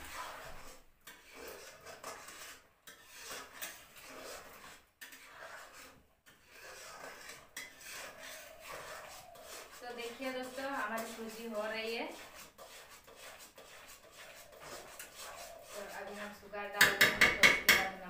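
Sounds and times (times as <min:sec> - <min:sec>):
metal spoon scraping a pan: 0:00.0 - 0:18.0.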